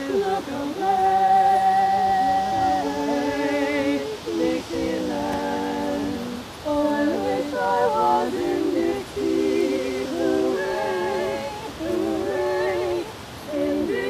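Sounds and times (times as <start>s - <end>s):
unaccompanied choir singing: 0.0s - 14.0s.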